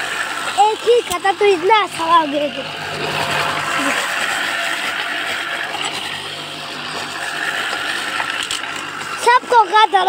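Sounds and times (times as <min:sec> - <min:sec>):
electric grass cutter running: 0:00.0 - 0:10.0.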